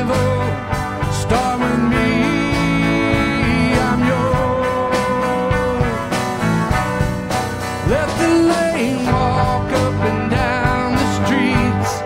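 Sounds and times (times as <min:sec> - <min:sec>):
band playing gospel song: 0:00.0 - 0:12.0.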